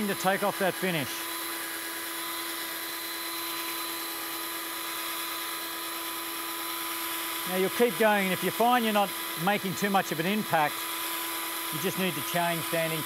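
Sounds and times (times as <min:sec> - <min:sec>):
electric drill sanding plastic: 0:00.0 - 0:13.0.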